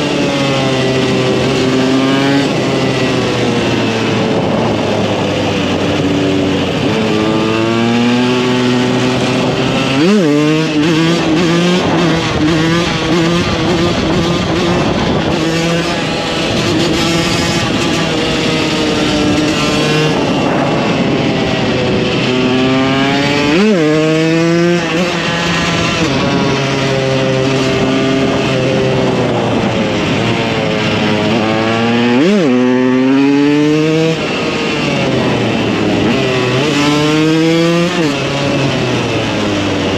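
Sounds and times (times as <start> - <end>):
two-stroke motorcycle engine: 0.0 - 39.9.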